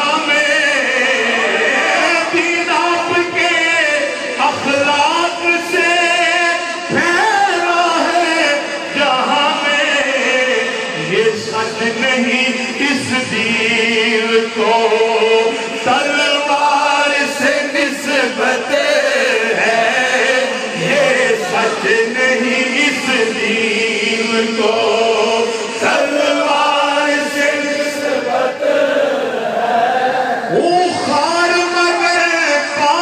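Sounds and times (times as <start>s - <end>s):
men chanting devotional song: 0.0s - 33.0s.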